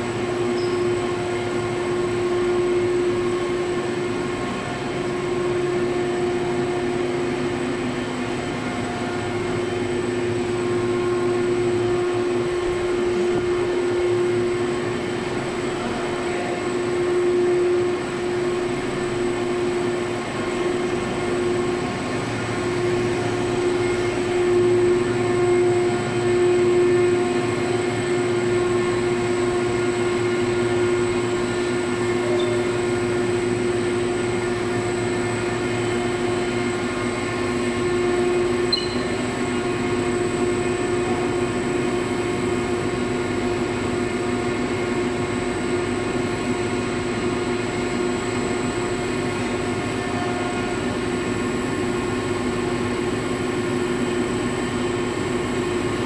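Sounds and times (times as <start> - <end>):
machine humming with steady tone: 0.0 - 56.0.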